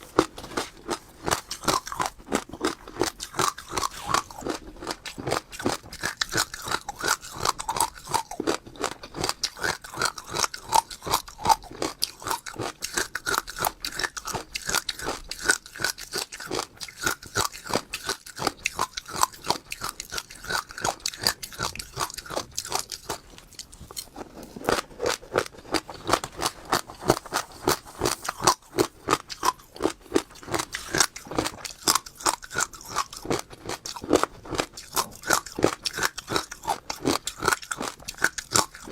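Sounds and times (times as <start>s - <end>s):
seeds crunching being chewed: 0.0s - 38.9s.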